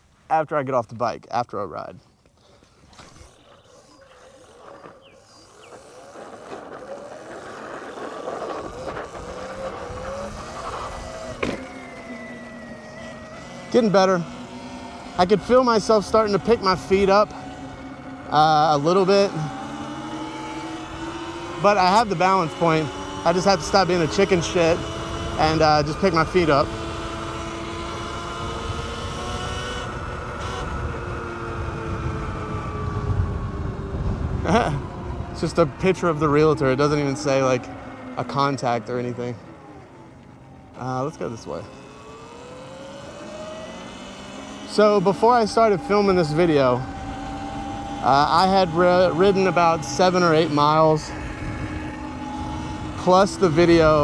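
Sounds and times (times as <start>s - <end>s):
wind and road rumble: 0.0s - 54.0s
electric dirt bike motor whining: 2.4s - 54.0s.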